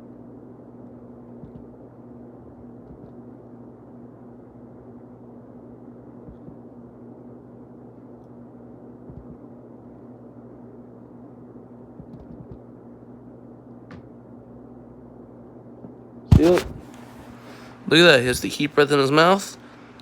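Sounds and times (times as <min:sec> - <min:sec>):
low background hum and hiss: 0:00.0 - 0:20.0.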